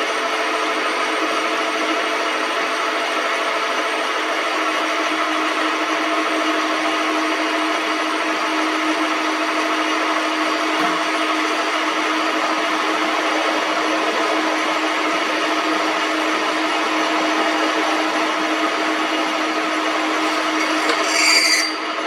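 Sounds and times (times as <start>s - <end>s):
metal lathe running: 0.0s - 22.0s.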